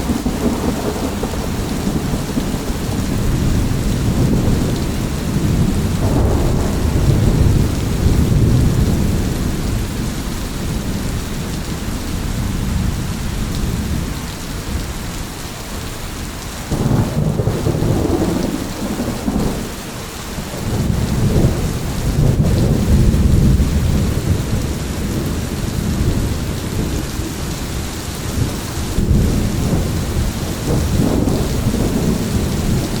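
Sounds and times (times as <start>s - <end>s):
thunder rumbling: 0.0s - 14.8s, 16.7s - 33.0s
heavy rain: 0.0s - 33.0s.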